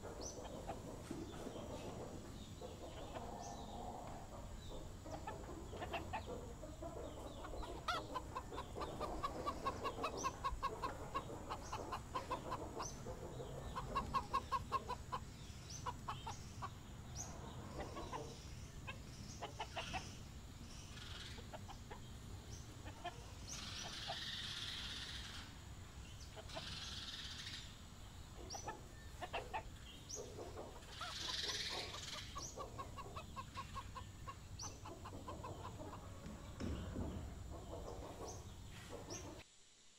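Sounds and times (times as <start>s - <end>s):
chickens clucking: 0.0s - 39.4s.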